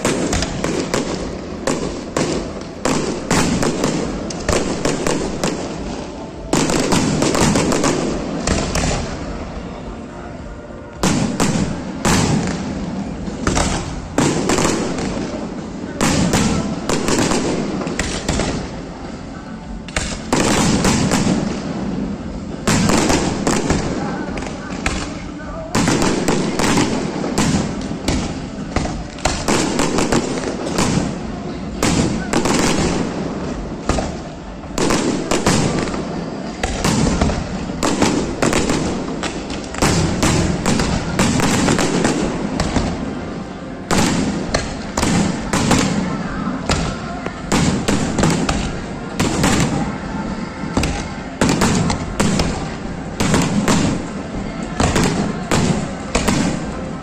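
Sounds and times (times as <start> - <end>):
fireworks cracking and banging: 0.0 - 57.0.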